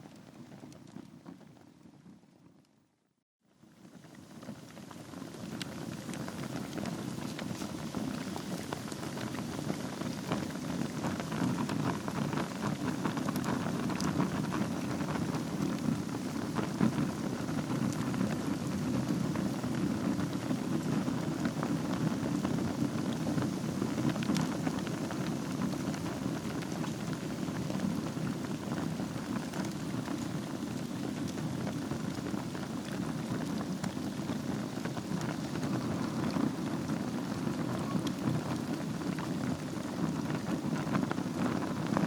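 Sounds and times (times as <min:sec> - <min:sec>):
fire crackles and pops: 0:00.0 - 0:02.4, 0:03.7 - 0:42.0
fire flames rushing: 0:03.9 - 0:42.0.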